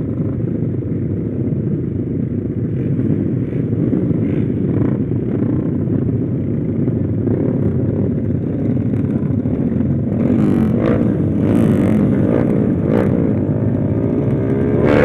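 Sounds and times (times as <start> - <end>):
motorcycle engine revving: 2.6 - 15.0.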